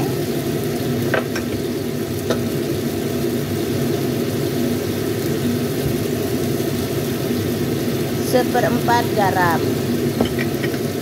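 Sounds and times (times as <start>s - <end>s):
sauce simmering in a wok: 0.0s - 11.0s.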